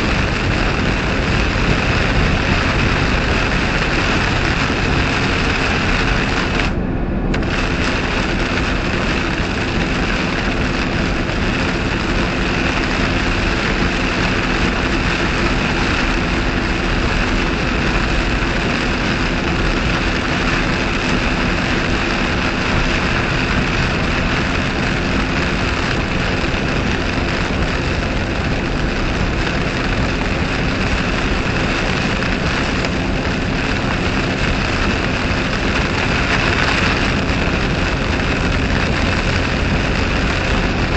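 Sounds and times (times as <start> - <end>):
tyres hissing on wet pavement: 0.0 - 6.8, 7.4 - 40.9
low engine hum: 0.0 - 40.9
rain and wind against car: 0.0 - 40.9.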